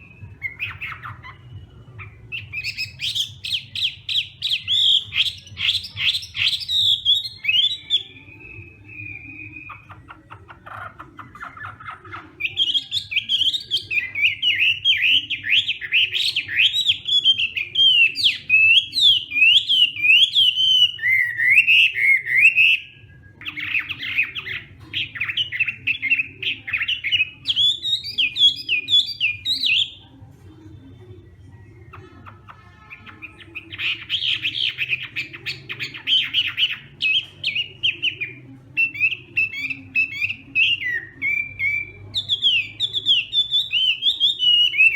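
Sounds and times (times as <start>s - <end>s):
bird singing varied song: 0.0s - 44.9s.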